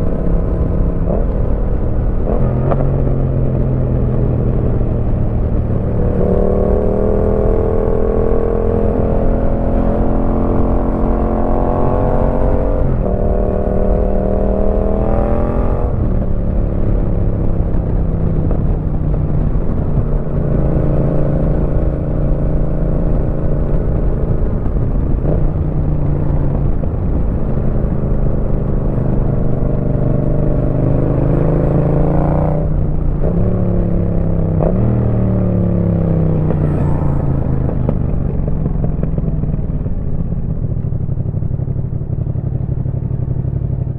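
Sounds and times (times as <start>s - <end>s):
motorcycle engine revving and upshifting: 0.0s - 43.9s.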